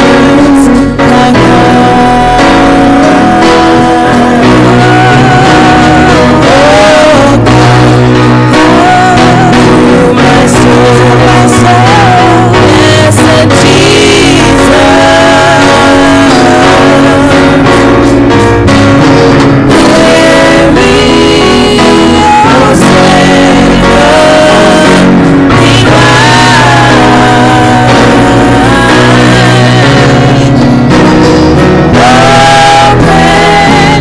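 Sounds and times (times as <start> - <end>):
women singing gospel in harmony: 0.0 - 18.2, 19.6 - 31.0, 31.9 - 34.0
drum kit: 0.0 - 34.0
electric keyboard: 0.0 - 34.0.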